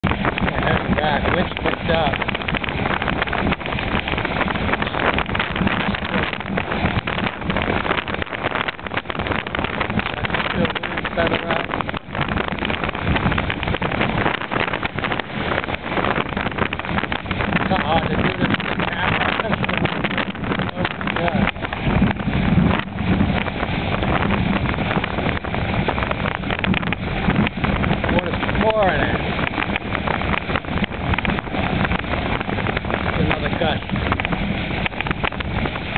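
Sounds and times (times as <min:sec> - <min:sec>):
water splashing along hull: 0:00.0 - 0:35.9
wind buffeting microphone: 0:00.0 - 0:35.9.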